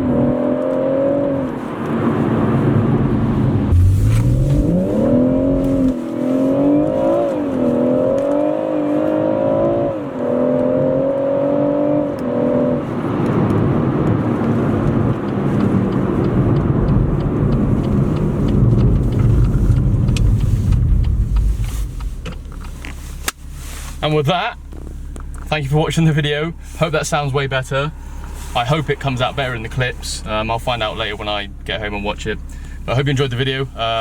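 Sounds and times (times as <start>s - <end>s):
car engine under load: 0.0s - 34.0s
road and wind rumble: 0.0s - 34.0s.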